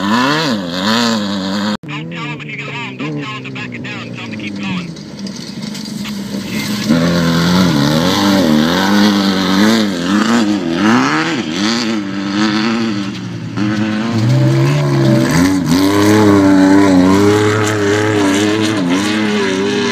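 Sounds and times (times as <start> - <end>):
deeper engine: 0.0 - 19.9
off-road engines revving: 0.0 - 19.9.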